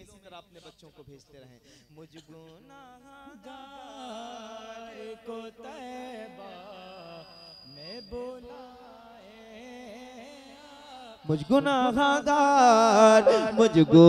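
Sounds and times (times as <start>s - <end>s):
man singing wavering melody: 2.3s - 14.0s.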